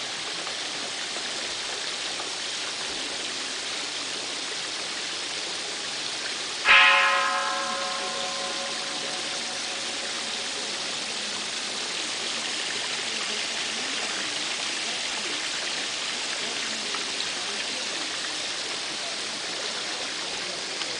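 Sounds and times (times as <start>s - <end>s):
running water: 0.0s - 20.9s.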